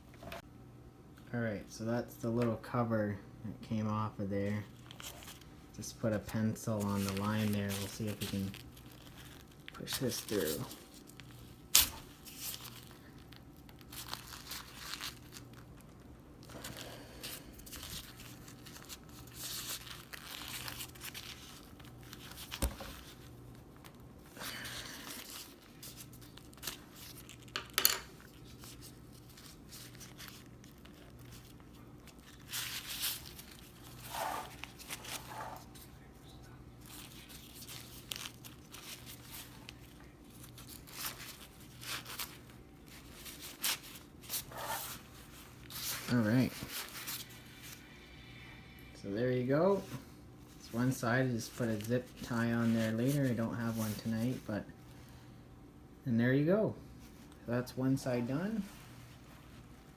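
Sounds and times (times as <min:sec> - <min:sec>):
fabric and webbing rustling: 0:04.4 - 0:47.8, 0:49.6 - 0:55.0, 0:57.0 - 0:59.9.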